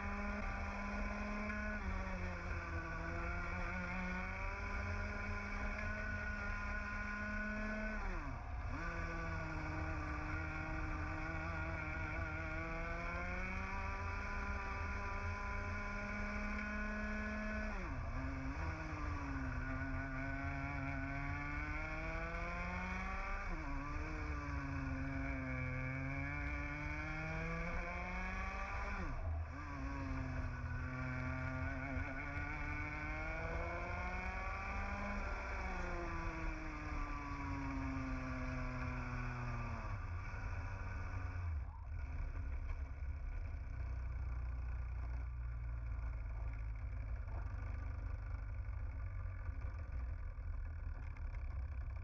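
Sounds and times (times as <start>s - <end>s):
kart engine revving: 0.0s - 52.0s.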